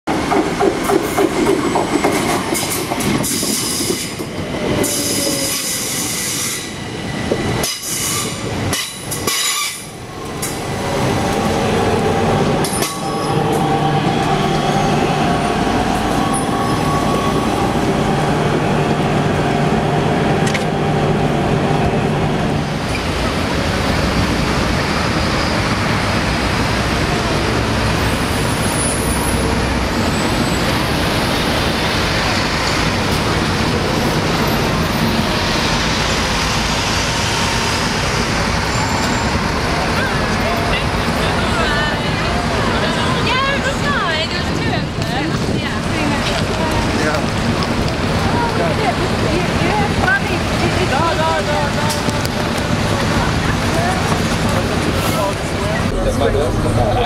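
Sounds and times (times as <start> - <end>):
train running on rails: 0.1 - 57.0.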